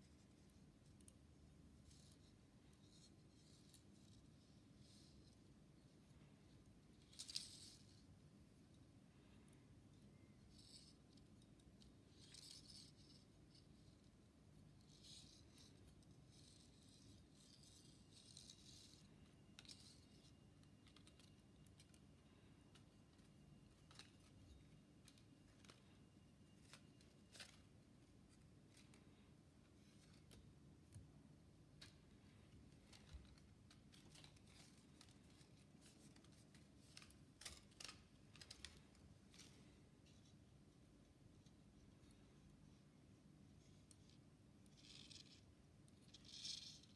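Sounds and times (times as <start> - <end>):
faint low hum: 0.0 - 46.9
faint rustling and scraping: 0.0 - 46.9.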